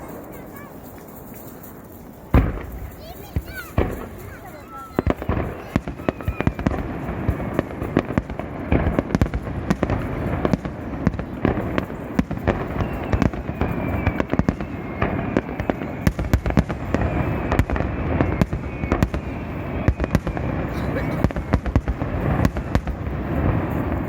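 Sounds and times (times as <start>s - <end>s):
fireworks bangs and pops: 0.0s - 24.0s
fireworks whistles: 0.0s - 24.0s.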